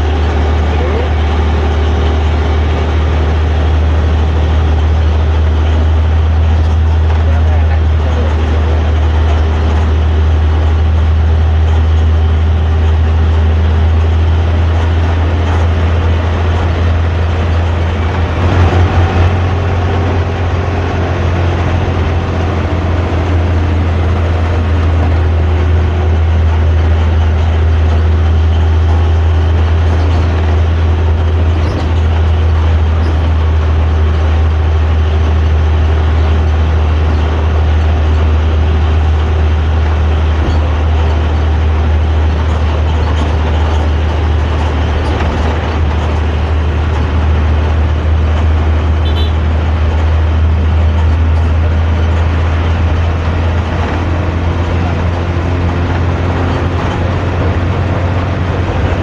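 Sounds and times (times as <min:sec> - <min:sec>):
bus diesel engine droning: 0:00.0 - 0:59.0.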